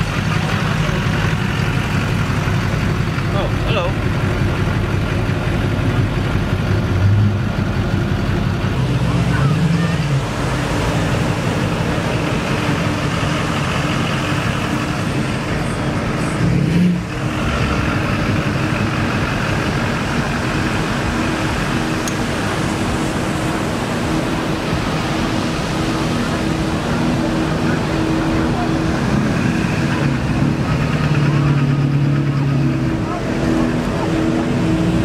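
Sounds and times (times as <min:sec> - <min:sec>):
diesel pickup engine running: 0:00.0 - 0:35.0.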